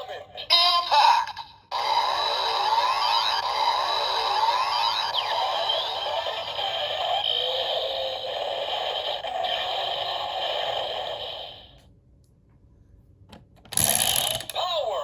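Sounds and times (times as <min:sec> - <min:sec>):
toy electronic sound effects: 0:00.0 - 0:11.7, 0:13.8 - 0:15.0.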